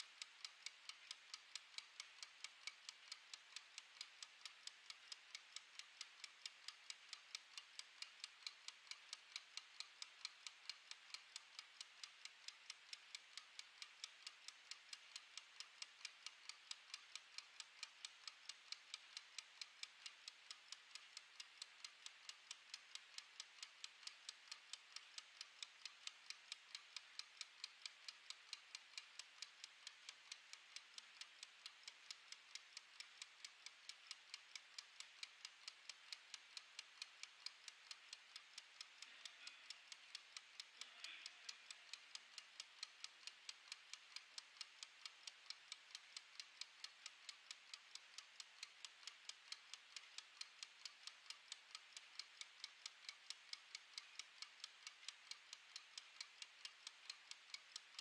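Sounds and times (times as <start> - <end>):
kitchen timer ticking: 0.0 - 58.0.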